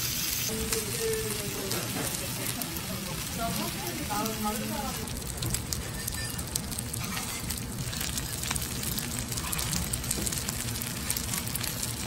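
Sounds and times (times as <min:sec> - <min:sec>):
rice sizzling on a griddle: 0:00.0 - 0:12.0.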